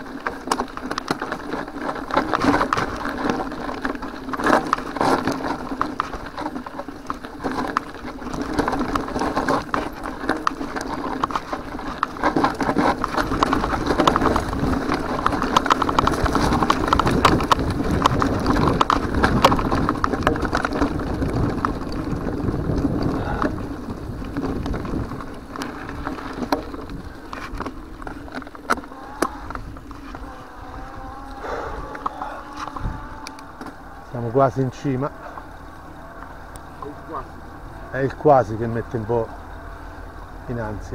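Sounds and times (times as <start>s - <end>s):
mountain bike rattling over gravel: 0.0s - 40.9s.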